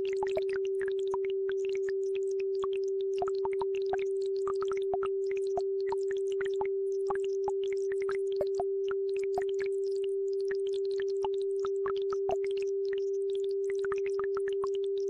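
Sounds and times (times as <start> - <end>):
steady sine tone: 0.0 - 15.0.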